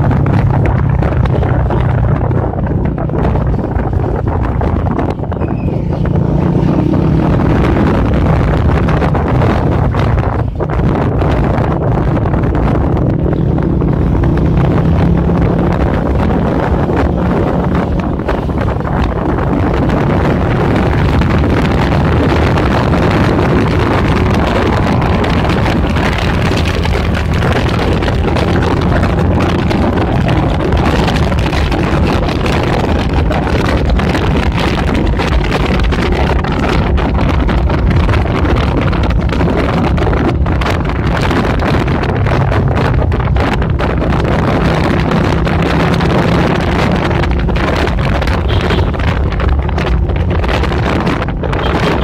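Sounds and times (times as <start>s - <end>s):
motorcycle engine running: 0.0s - 52.0s
wind on microphone: 0.0s - 52.0s.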